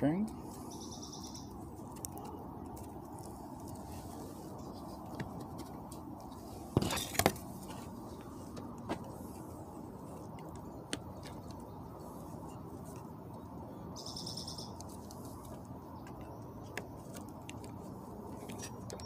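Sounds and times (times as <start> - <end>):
low outdoor hum: 0.0 - 19.0
handling clicks and rustle: 1.5 - 13.7, 14.8 - 19.0.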